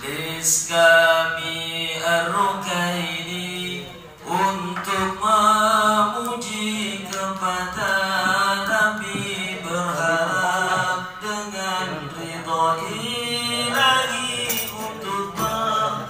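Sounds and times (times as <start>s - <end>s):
men singing devotional chant: 0.0s - 16.0s.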